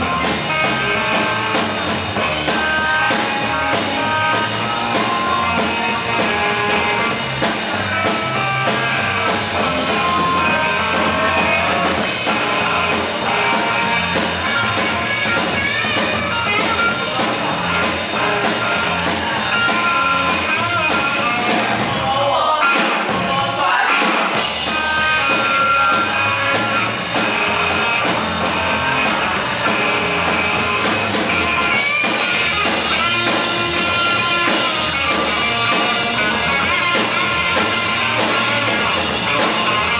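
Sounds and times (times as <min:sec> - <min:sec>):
electric bass: 0:00.0 - 0:23.5, 0:24.4 - 0:39.9
drum kit: 0:00.0 - 0:39.9
electric guitars: 0:00.0 - 0:39.9
lead vocal singing: 0:00.0 - 0:39.9.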